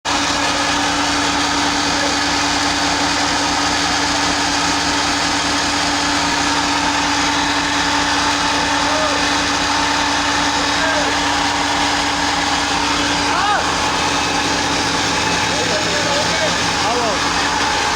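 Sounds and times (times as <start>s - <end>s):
ship engine running: 0.1s - 17.9s.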